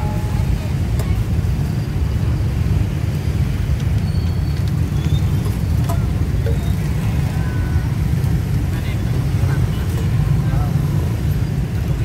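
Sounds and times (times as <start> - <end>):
motorbikes passing: 0.0 - 12.0.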